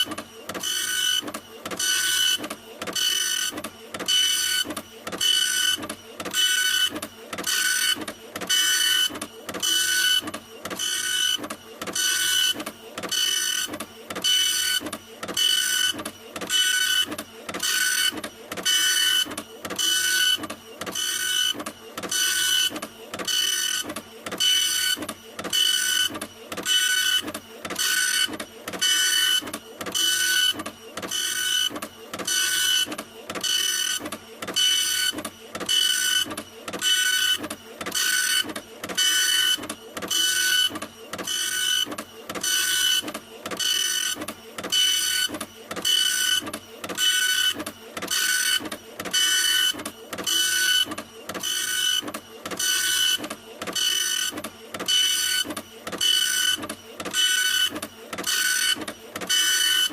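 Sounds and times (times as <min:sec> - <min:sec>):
printer printing: 0:00.0 - 0:59.9.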